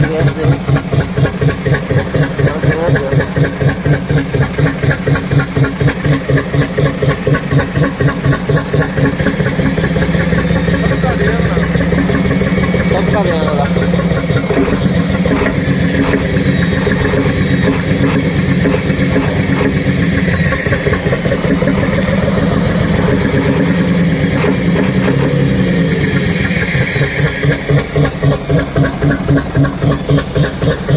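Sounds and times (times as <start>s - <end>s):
diesel truck engine running: 0.0s - 30.9s.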